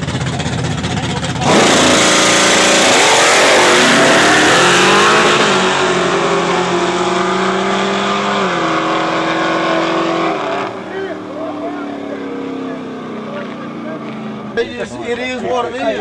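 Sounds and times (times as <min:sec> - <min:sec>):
car engines revving and accelerating: 0:00.0 - 0:16.0.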